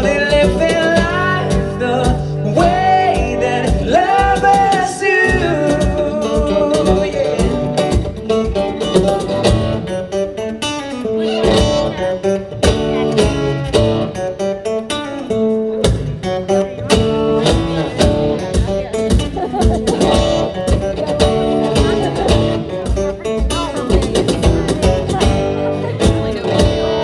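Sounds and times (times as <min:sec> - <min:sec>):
drum beats: 0:00.0 - 0:14.7, 0:15.8 - 0:27.0
acoustic guitar strumming: 0:00.0 - 0:27.0.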